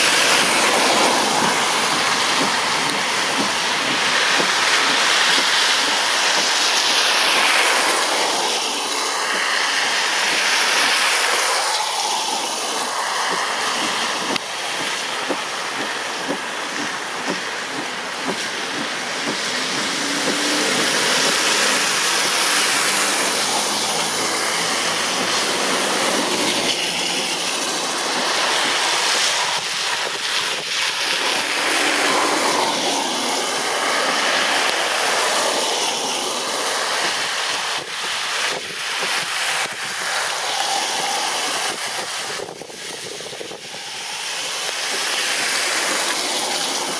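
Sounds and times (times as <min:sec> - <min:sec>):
tyres splashing through water: 0:00.0 - 0:46.9.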